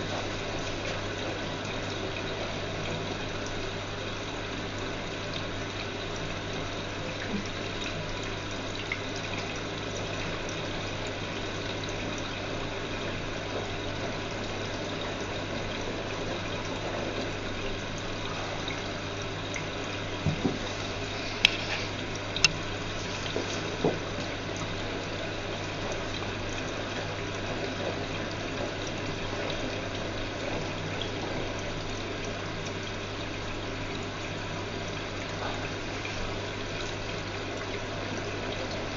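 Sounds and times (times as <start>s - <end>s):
washing machine running: 0.0s - 38.9s
water flowing: 0.0s - 38.9s.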